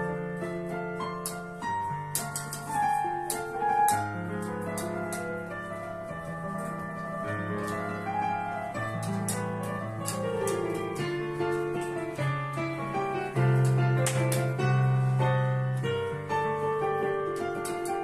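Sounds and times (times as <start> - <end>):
digital piano playing: 0.0 - 18.0.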